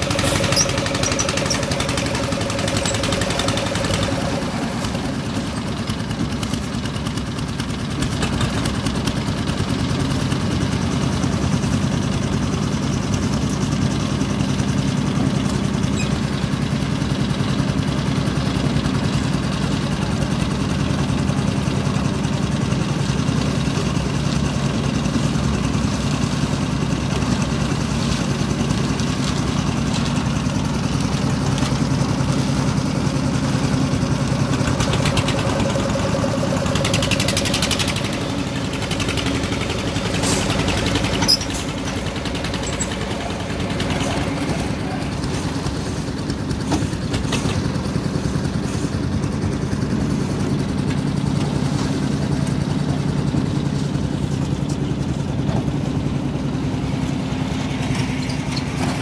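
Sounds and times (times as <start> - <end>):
concrete mixer engine running: 0.0 - 59.0.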